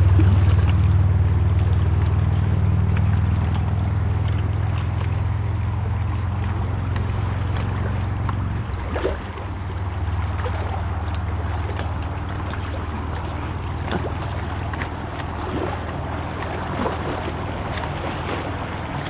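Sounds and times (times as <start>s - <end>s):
distant motorboat engine: 0.0s - 19.0s.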